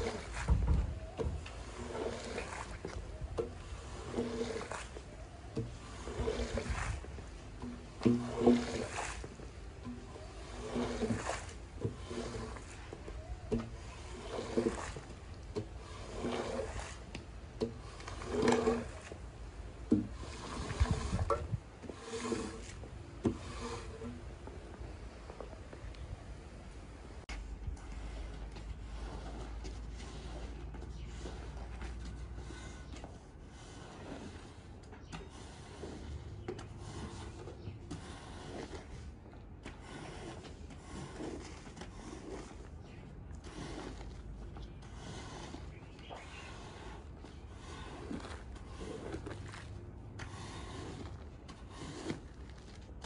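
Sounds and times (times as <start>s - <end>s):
squeegee scraping wet rug: 0.0s - 53.0s.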